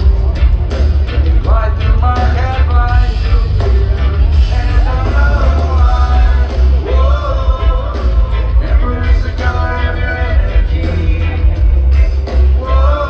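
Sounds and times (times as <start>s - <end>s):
live rock band playing: 0.0s - 13.0s
person singing: 1.3s - 13.0s.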